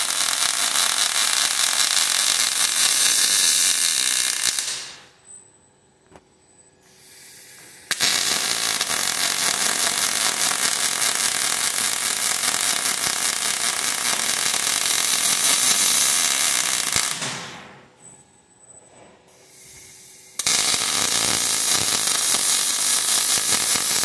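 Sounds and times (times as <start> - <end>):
welding arc crackling: 0.0 - 5.1, 7.0 - 17.8, 19.5 - 24.0.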